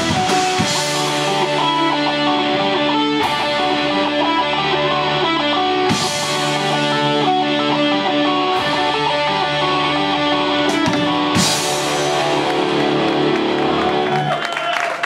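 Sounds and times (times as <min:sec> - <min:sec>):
electric guitars sustained chords: 0:00.0 - 0:14.3
drum kit: 0:00.0 - 0:14.4.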